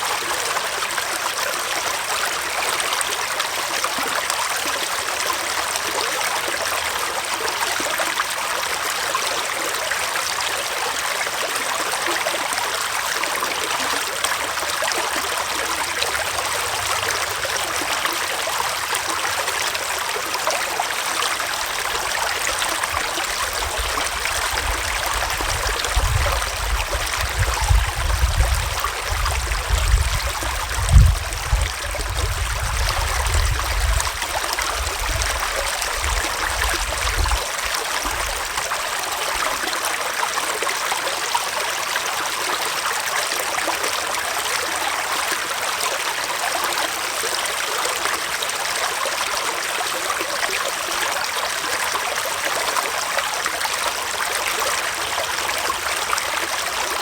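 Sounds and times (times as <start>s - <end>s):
stream flowing and trickling: 0.0s - 57.0s.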